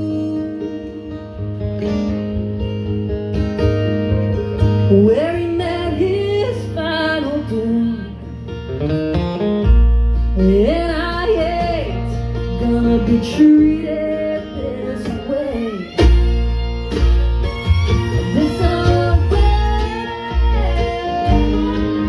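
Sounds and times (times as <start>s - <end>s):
strummed acoustic guitar: 0.0s - 22.0s
upright bass: 0.0s - 22.0s.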